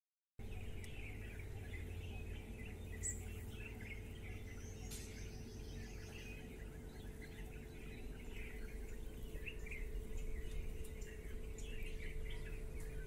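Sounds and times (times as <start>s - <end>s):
low background rumble: 0.4s - 13.0s
small birds chirping: 0.4s - 13.0s.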